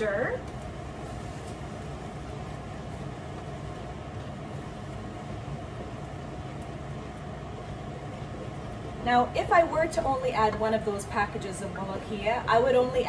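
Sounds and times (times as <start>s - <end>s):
range hood fan humming: 0.0s - 13.0s.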